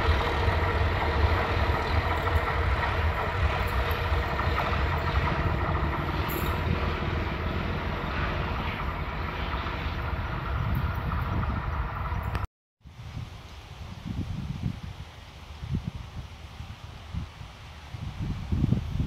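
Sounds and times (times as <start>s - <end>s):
diesel train engine and rail rumble: 0.0s - 19.0s.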